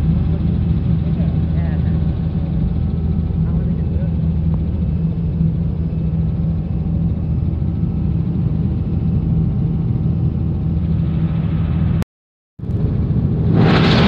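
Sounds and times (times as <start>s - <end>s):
helicopter engine and rotor drone: 0.0s - 12.0s, 12.6s - 14.0s.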